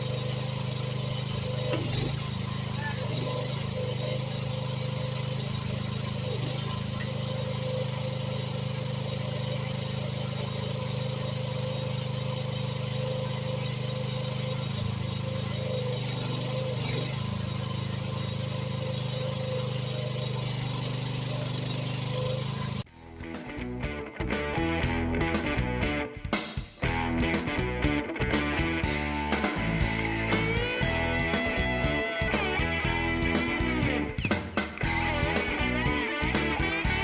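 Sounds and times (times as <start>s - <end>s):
excavator engine running: 0.0s - 37.0s.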